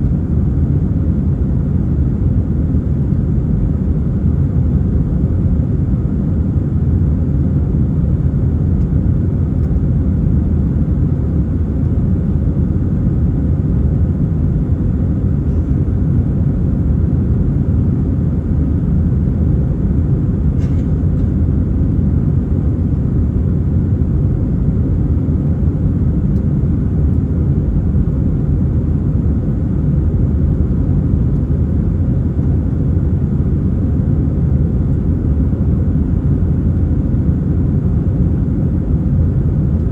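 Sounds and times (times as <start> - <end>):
airplane engine and airflow rumble: 0.0 - 39.9.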